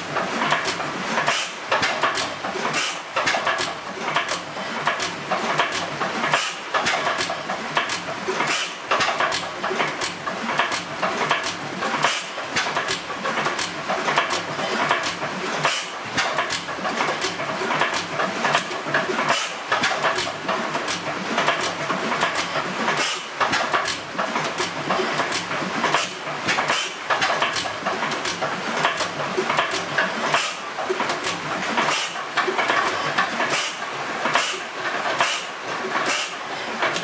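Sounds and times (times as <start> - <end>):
stationary engine clattering: 0.0 - 37.0.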